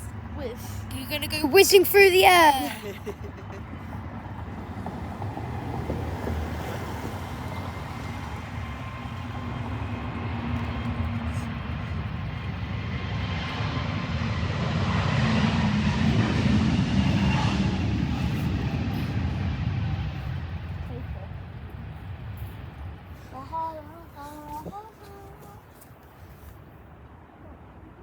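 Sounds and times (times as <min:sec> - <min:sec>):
jet airliner engines roaring: 0:00.0 - 0:23.4.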